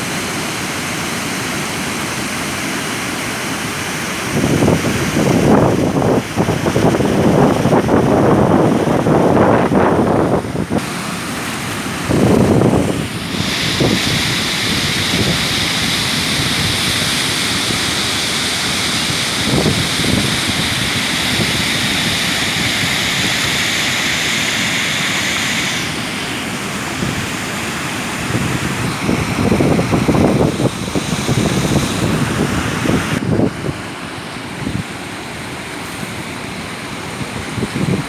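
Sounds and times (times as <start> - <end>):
waterfall roaring: 0.0 - 38.0
wind buffeting microphone: 4.3 - 33.9, 37.1 - 38.0.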